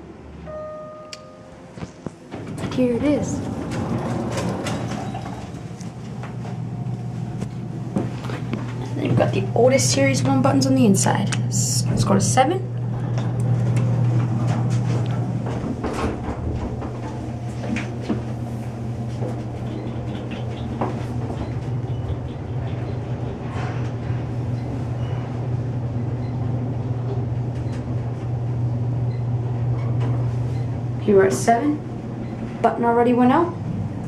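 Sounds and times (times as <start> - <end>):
elevator low hum: 0.0 - 34.0.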